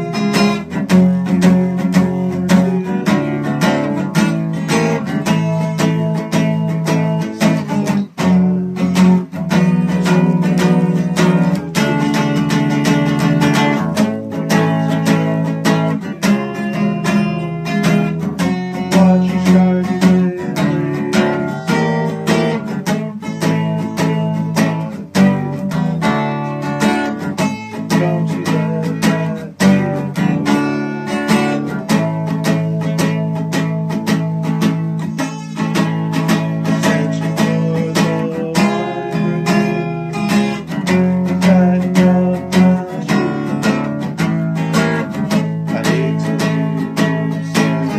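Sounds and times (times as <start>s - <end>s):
acoustic guitar playing: 0.0s - 47.9s.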